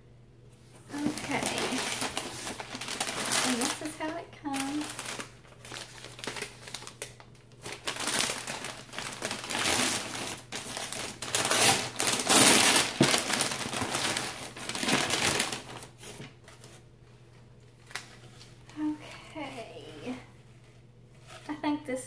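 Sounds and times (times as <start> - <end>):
paper packaging crinkling: 0.8 - 20.2.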